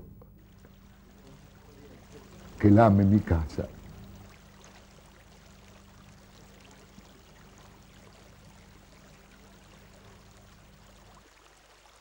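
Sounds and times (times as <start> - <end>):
faint background hiss: 0.0 - 12.0
low electrical hum: 0.0 - 12.0.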